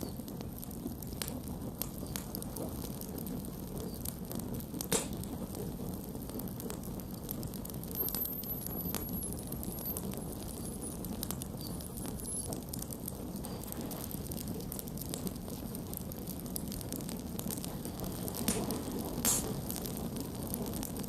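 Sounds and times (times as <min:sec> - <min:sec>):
campfire burning and crackling: 0:00.0 - 0:21.0.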